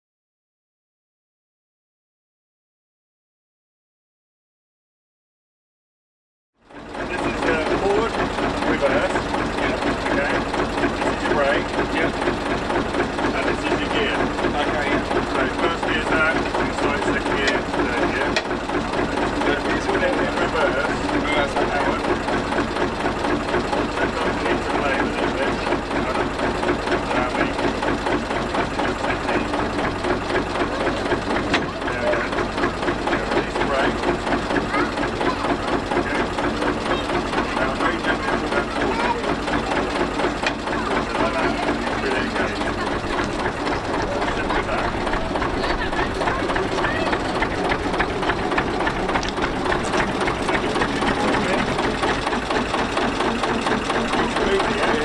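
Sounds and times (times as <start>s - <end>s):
diesel locomotive engine running: 6.6s - 55.0s.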